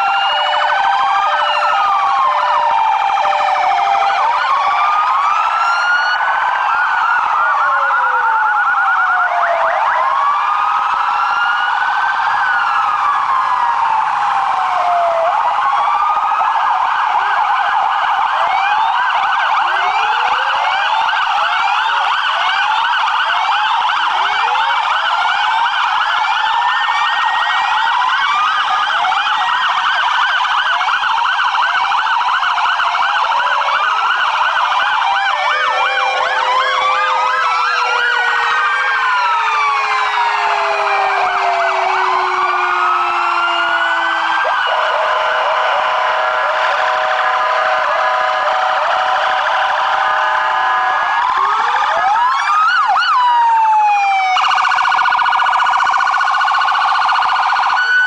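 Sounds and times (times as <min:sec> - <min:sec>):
long slowly falling siren tone: 0:00.0 - 0:58.0
sirens wailing and yelping: 0:00.0 - 0:58.0.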